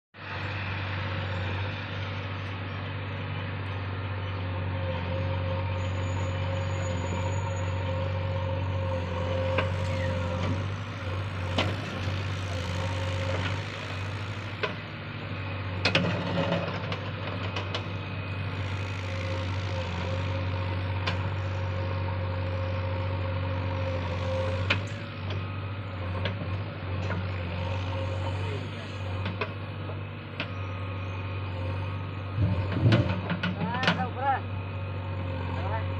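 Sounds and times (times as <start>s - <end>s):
heavy diesel engine running: 0.2s - 35.9s.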